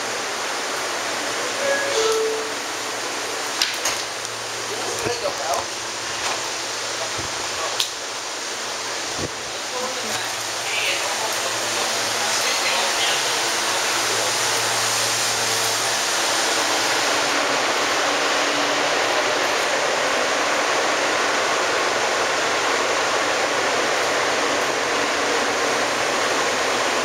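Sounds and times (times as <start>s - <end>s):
low train hum: 0.0s - 27.0s.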